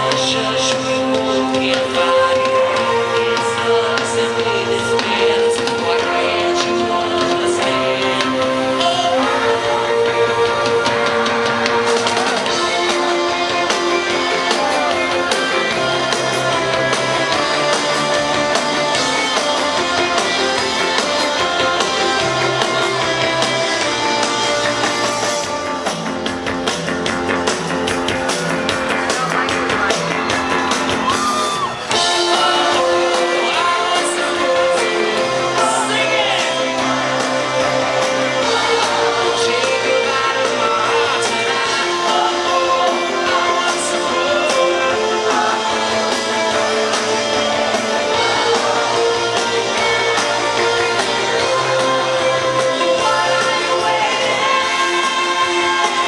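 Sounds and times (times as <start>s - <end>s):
bass guitar: 0.0s - 56.0s
drums: 0.0s - 56.0s
electric guitar: 0.0s - 56.0s
person singing lead vocal: 0.0s - 56.0s.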